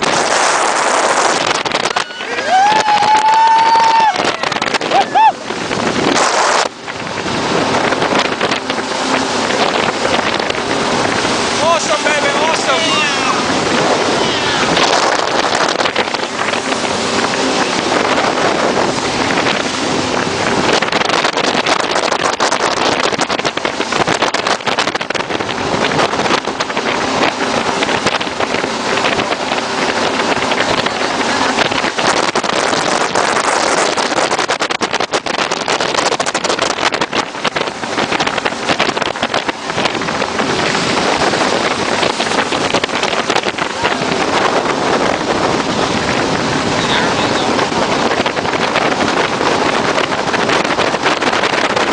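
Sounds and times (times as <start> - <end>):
jet boat engine: 0.0 - 51.9
rushing water: 0.0 - 51.9
wind buffeting microphone: 0.0 - 51.9.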